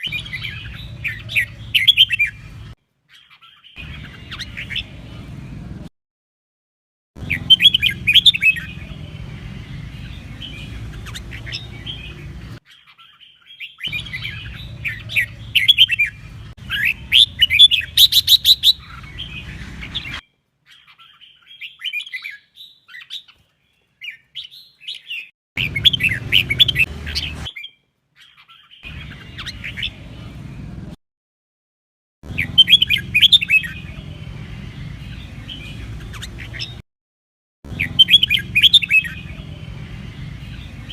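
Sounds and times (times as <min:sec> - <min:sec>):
bulbuls singing whistled phrases: 0:00.0 - 0:05.3, 0:07.2 - 0:23.4, 0:24.0 - 0:30.4, 0:32.3 - 0:36.8, 0:37.7 - 0:40.9.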